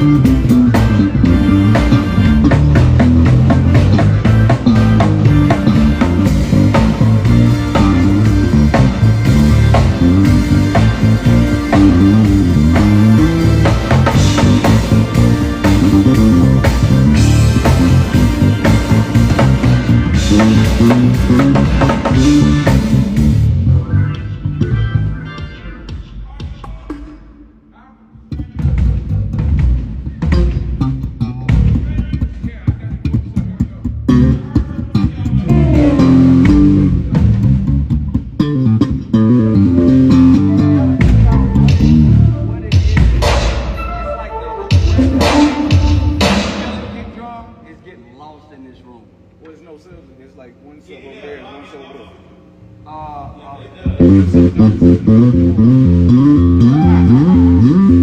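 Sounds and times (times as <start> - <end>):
bass guitar playing: 0.0 - 25.9, 28.3 - 47.0, 53.8 - 58.0
drum kit beat: 0.0 - 47.5, 53.8 - 58.0.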